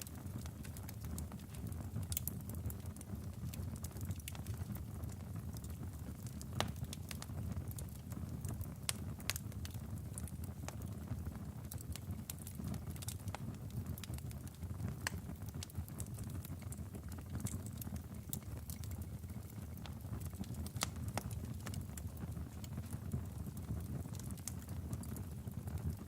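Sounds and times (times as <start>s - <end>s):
logs crackling and popping: 0.0s - 26.0s
wood fire burning: 0.0s - 26.0s.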